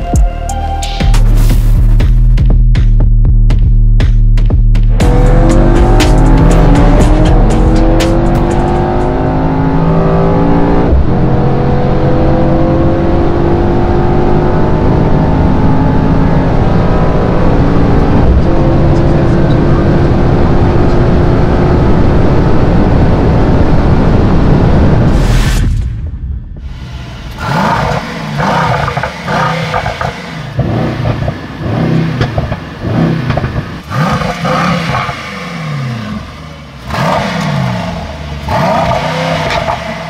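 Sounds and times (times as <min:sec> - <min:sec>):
car engine accelerating hard: 0:04.9 - 0:25.1, 0:26.7 - 0:40.0.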